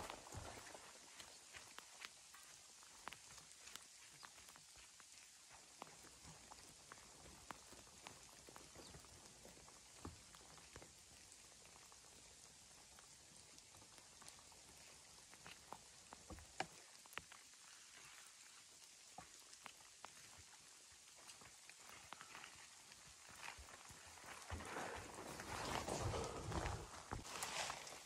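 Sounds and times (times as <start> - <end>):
faint steady rain hiss: 0.0 - 28.0
rain pattering on leaves: 0.0 - 28.0.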